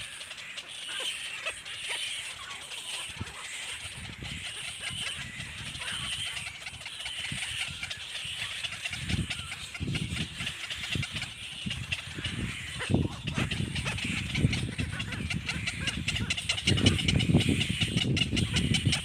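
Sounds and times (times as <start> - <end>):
baby birds calling: 0.0 - 19.0.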